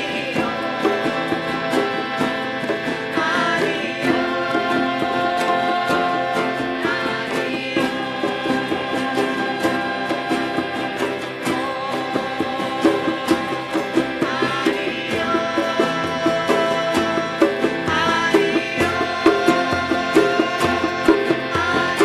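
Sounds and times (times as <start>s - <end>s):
hand drum strikes: 0.0s - 22.0s
sustained pitched instruments: 0.0s - 22.0s.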